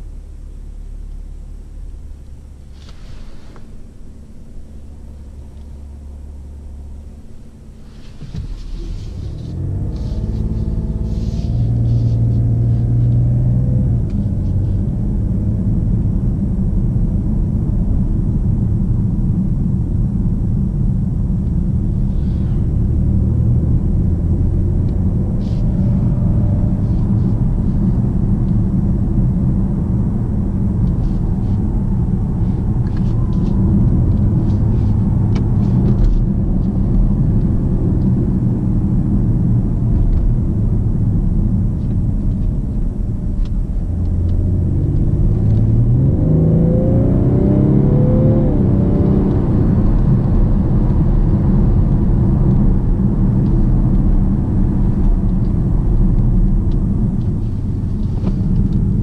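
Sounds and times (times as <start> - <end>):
diesel car engine: 0.0 - 59.0
road noise: 0.0 - 59.0.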